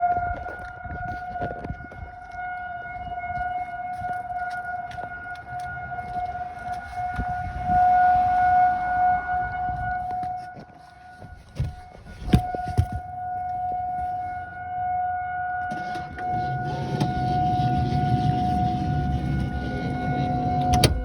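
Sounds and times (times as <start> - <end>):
tornado warning siren: 0.0 - 21.0.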